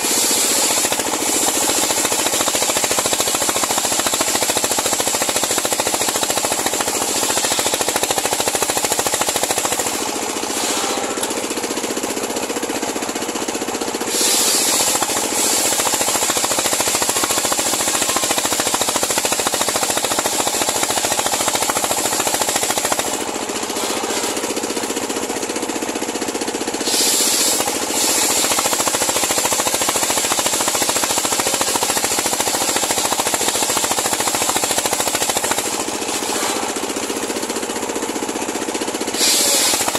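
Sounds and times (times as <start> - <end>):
circular sawmill cutting log: 0.0 - 39.9.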